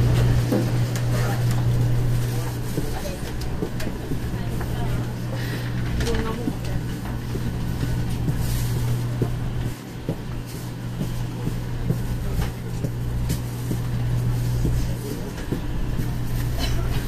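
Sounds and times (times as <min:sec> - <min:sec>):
train interior hum and rumble: 0:00.0 - 0:17.0.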